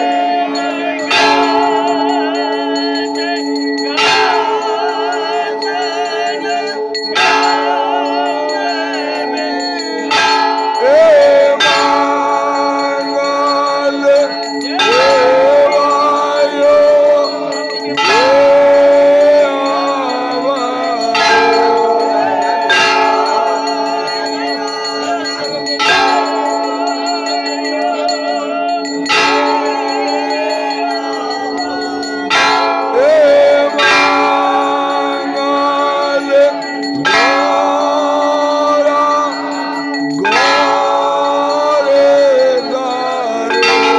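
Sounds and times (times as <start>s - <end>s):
loud bell strikes: 0.0s - 43.9s
temple bells ringing: 0.0s - 43.9s.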